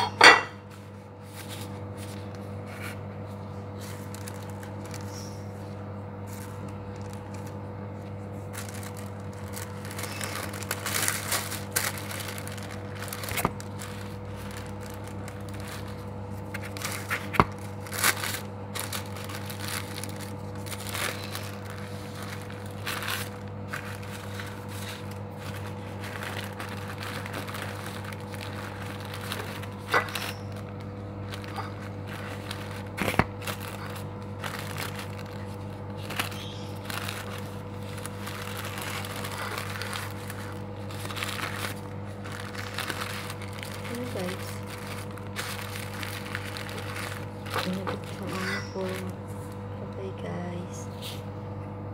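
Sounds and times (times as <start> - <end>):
low electrical hum: 0.0 - 51.9
paper and plastic gloves rustling: 0.6 - 51.3.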